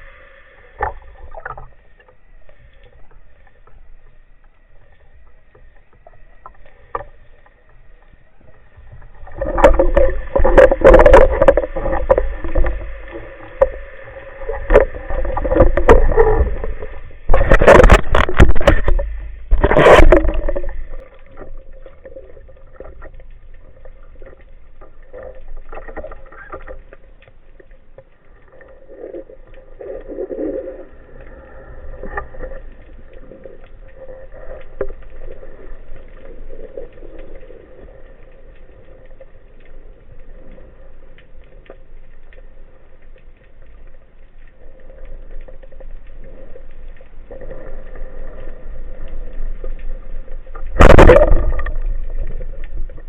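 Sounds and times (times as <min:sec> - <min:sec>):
faint water sloshing: 0:00.0 - 0:53.0
water churning and bubbling: 0:00.0 - 0:53.0.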